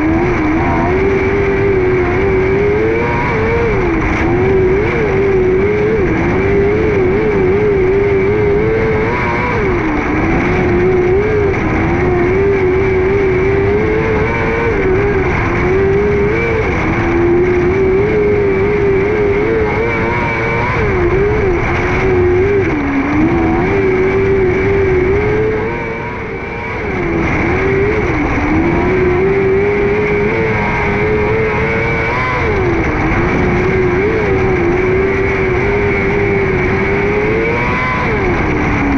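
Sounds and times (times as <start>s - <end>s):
engine revving hard: 0.0s - 38.9s.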